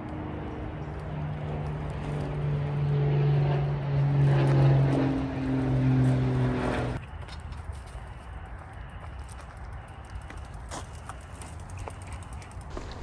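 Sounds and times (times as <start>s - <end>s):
bike buzzing hum: 0.0s - 13.0s.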